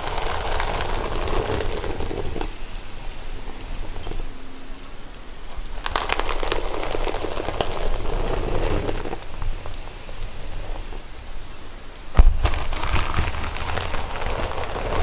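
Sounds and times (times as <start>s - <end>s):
fingers rustling through hair: 0.0s - 15.0s
steady rain: 0.0s - 15.0s.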